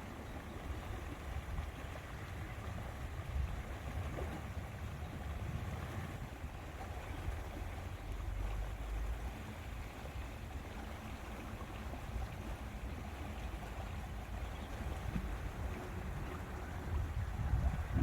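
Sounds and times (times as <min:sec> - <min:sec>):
water noise: 0:00.0 - 0:18.0
wind rumble on microphone: 0:00.0 - 0:18.0.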